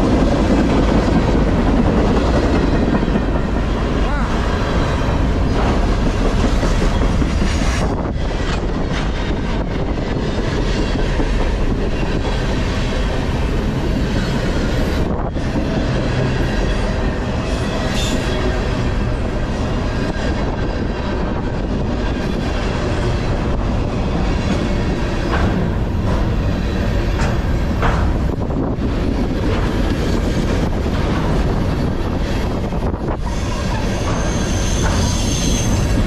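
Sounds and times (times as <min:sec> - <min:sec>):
train clatter: 0:00.0 - 0:36.0
train wheels on rails: 0:00.0 - 0:36.0.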